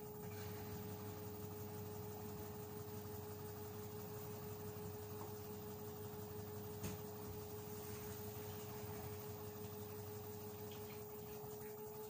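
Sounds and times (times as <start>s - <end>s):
washing machine hum: 0.0s - 12.0s.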